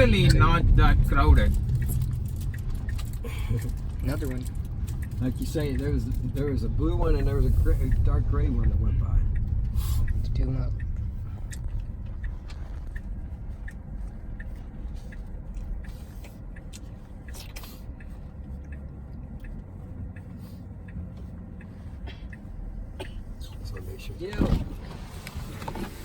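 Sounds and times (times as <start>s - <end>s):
faint even ticking: 0.0s - 24.4s
road and tyre rumble in car: 0.0s - 26.0s.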